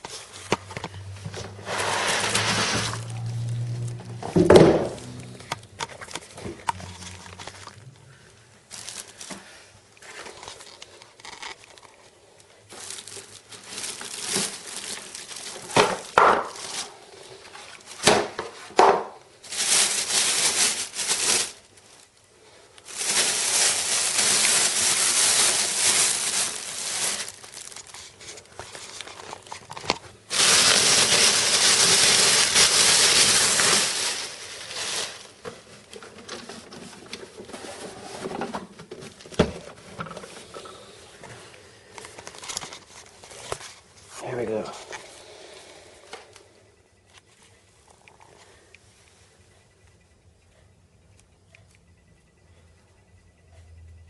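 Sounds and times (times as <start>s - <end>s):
plastic wrapping crinkling: 0.0s - 44.7s.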